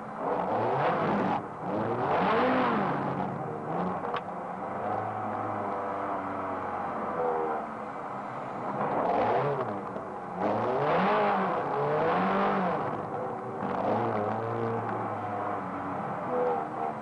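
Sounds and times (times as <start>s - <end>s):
sports car engine revving: 0.0s - 17.0s.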